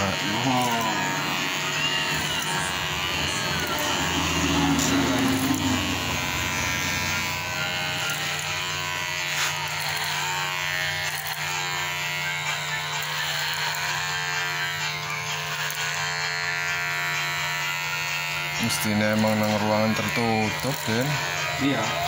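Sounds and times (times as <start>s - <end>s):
electric hair clipper buzzing: 0.0s - 22.0s.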